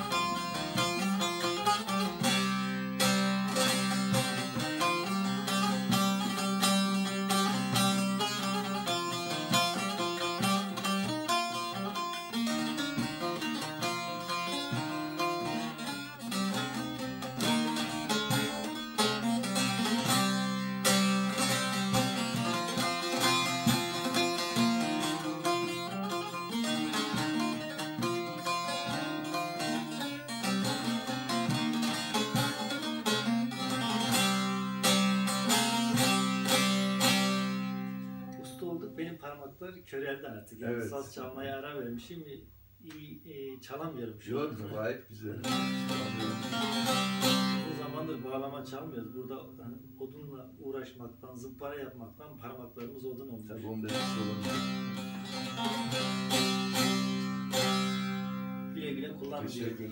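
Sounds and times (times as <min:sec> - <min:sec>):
plucked lute folk tune: 0:00.0 - 0:39.2, 0:44.4 - 0:49.4, 0:52.9 - 0:59.9.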